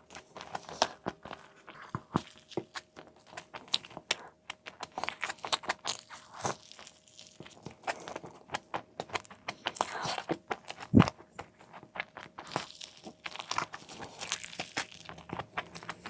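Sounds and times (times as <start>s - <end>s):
crunching bites and chewing: 0.0s - 16.0s.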